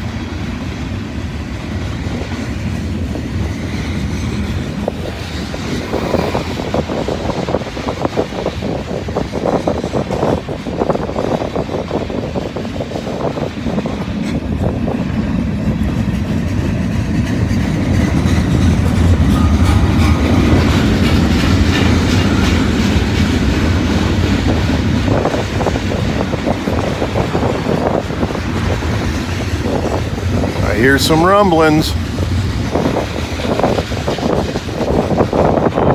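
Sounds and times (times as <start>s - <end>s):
train rumble: 0.0s - 35.9s.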